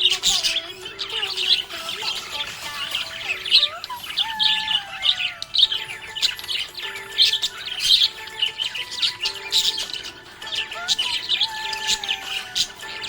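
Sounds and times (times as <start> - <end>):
budgerigars chirping and chattering: 0.0 - 13.0
whistled bird notes: 0.0 - 13.0.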